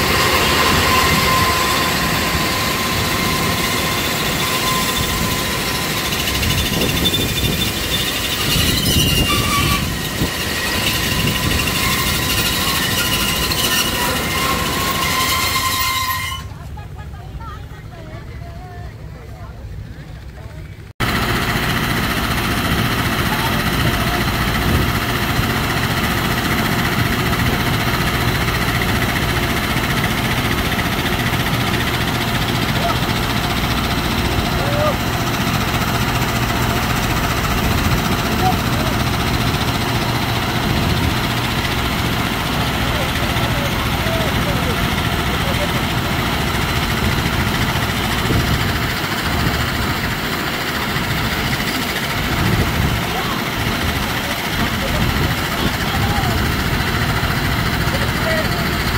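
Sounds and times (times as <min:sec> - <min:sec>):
heavy engine idling: 0:00.0 - 0:58.9.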